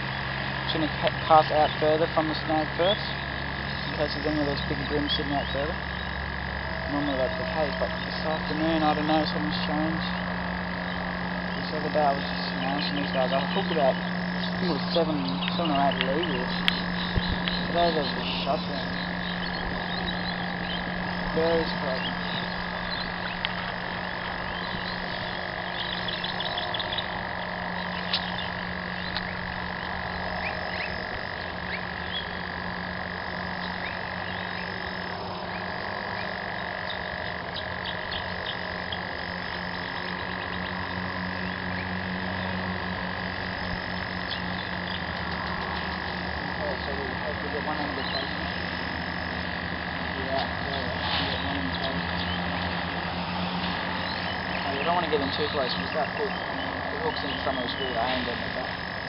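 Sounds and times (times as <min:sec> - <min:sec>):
frogs calling in chorus: 0:00.0 - 0:59.0.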